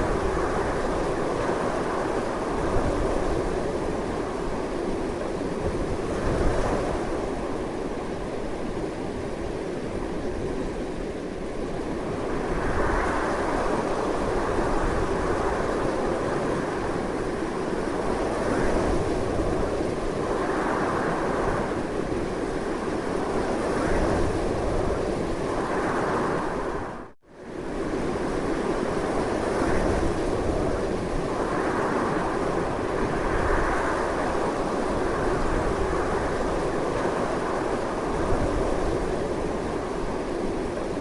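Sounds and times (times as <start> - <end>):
strong wind blowing: 0.0 - 41.0.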